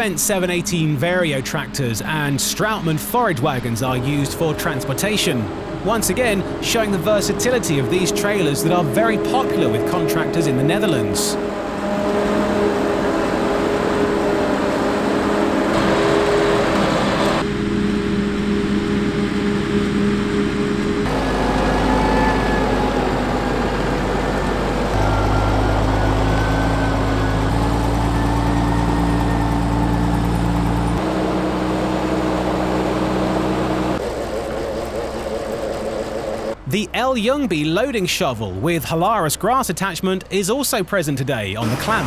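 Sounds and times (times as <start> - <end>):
farm machinery diesel engines: 0.0 - 42.0.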